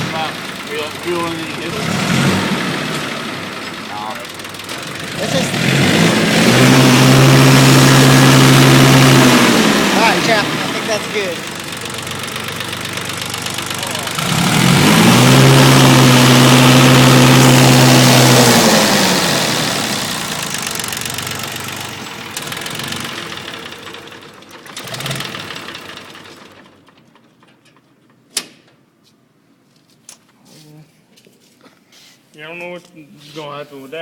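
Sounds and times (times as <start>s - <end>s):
diesel tractor engine revving: 0.0s - 27.4s.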